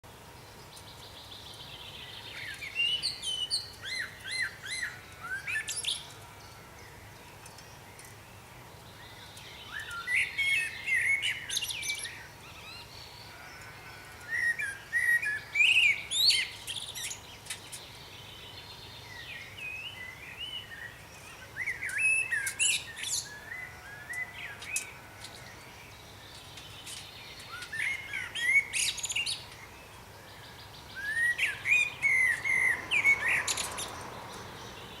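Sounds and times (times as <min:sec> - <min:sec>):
songbird whistles and trills: 0:00.6 - 0:06.2, 0:08.9 - 0:25.4, 0:26.2 - 0:34.4.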